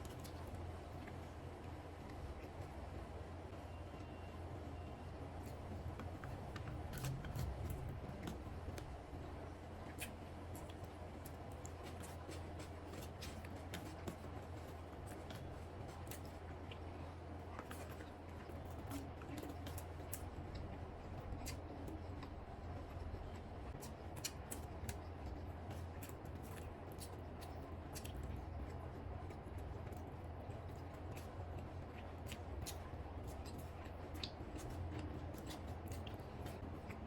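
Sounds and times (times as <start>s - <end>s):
chewing food: 0.0s - 2.7s, 5.3s - 37.0s.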